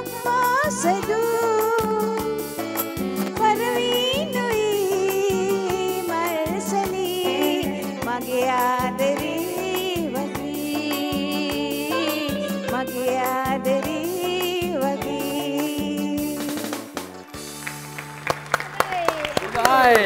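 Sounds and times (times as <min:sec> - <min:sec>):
woman singing into microphone: 0:00.0 - 0:17.0
backing music with steady beat: 0:00.0 - 0:18.2.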